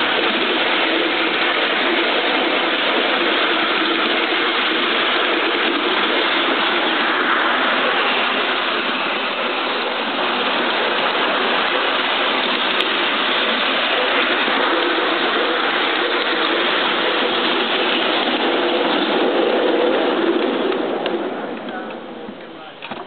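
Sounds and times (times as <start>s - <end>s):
model steam locomotive running: 0.0s - 23.0s.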